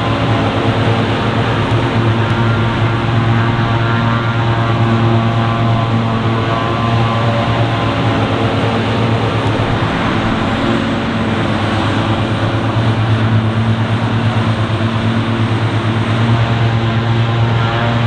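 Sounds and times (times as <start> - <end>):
diesel farm machinery running: 0.0 - 18.0.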